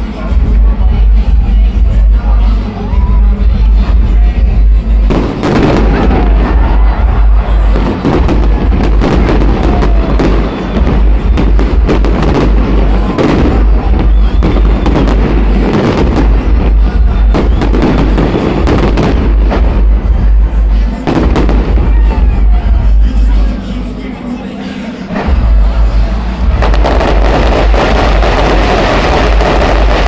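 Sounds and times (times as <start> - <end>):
low rumble: 3.4 - 23.2, 25.2 - 30.0
fireworks bangs: 3.6 - 23.4, 25.1 - 30.0.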